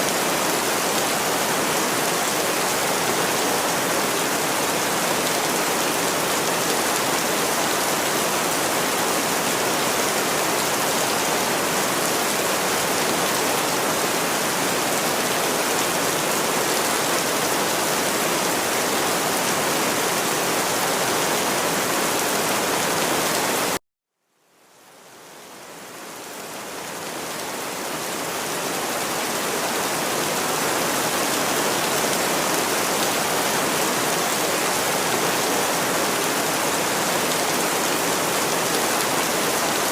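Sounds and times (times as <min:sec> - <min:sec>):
steady rain: 0:00.0 - 0:23.8, 0:24.4 - 0:39.9.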